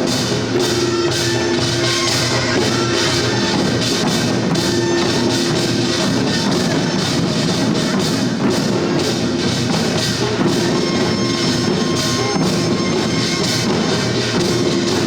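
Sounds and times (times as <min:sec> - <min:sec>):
drums in fast even beat: 0:00.0 - 0:15.0
held note over drumming: 0:00.0 - 0:15.0.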